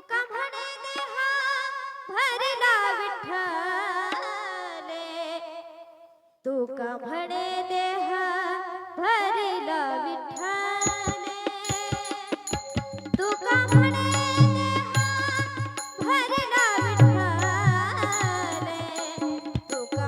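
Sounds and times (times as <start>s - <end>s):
woman singing devotional song: 0.0s - 20.0s.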